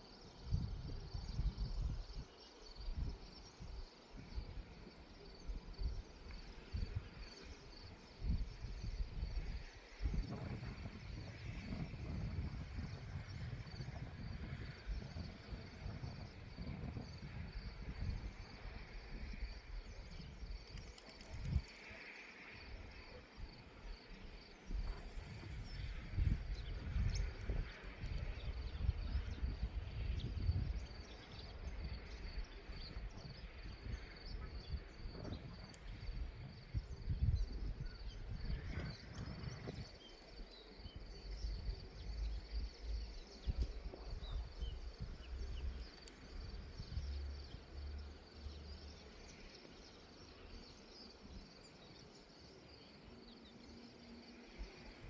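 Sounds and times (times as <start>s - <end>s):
insects chirring: 0.0s - 55.0s
wind buffeting microphone: 0.3s - 21.8s, 22.8s - 47.6s.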